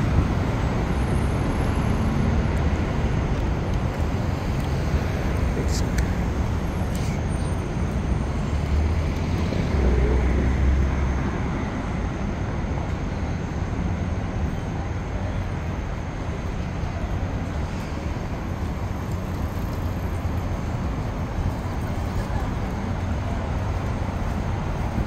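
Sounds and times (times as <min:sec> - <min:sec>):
passing cars hum: 0:00.0 - 0:25.0.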